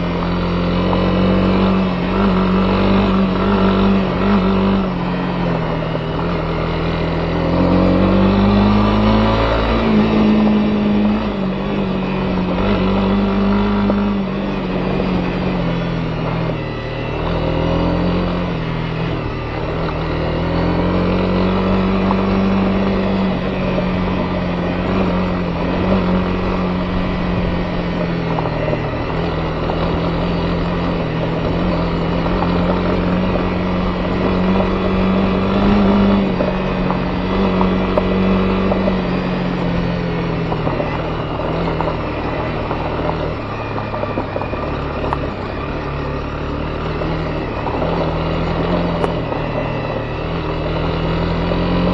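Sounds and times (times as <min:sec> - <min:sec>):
motorcycle engine running: 0:00.0 - 0:51.9
rush of riding noise: 0:00.0 - 0:51.9.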